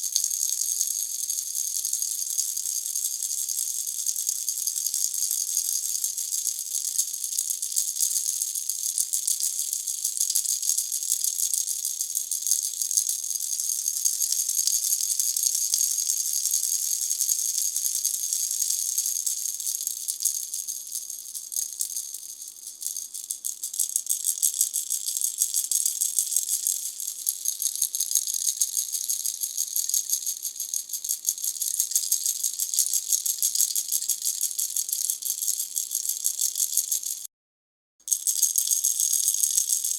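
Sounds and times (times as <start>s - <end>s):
baby rattle shaken: 0.0s - 37.3s, 38.1s - 39.9s.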